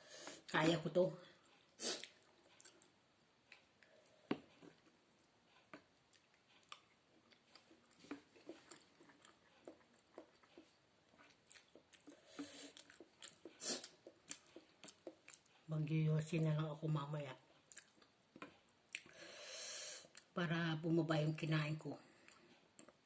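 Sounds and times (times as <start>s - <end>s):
chewing noodle soup: 0.3s - 15.7s, 17.3s - 19.2s, 20.0s - 20.4s, 22.1s - 23.0s.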